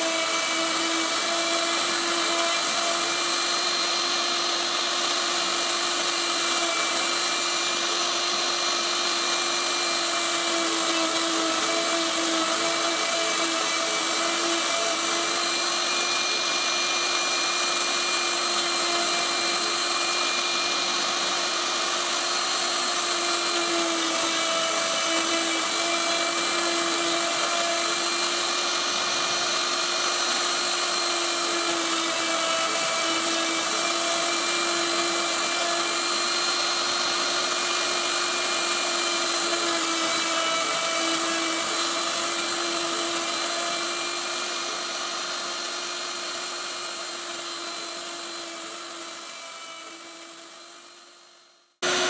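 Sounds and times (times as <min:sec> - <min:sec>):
hiss of bit cutting wood: 0:00.0 - 0:51.0
router spindle whining: 0:00.0 - 0:52.0.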